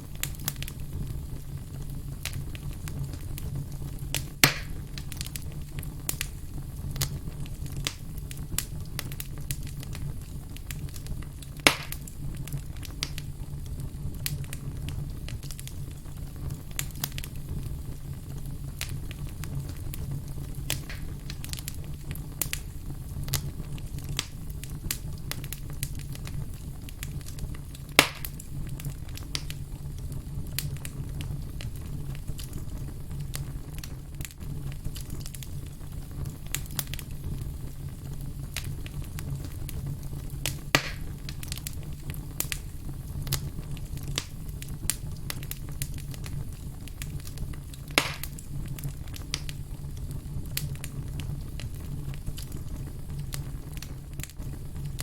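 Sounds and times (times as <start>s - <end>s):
campfire crackling: 0.0s - 55.0s
loud fire pops: 0.0s - 55.0s
low rumble of burning fire: 0.0s - 55.0s.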